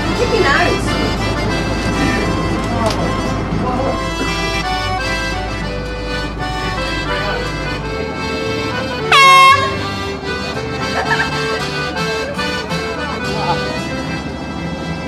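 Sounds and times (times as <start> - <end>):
horn blast: 0.0 - 13.8
background music: 0.0 - 15.0.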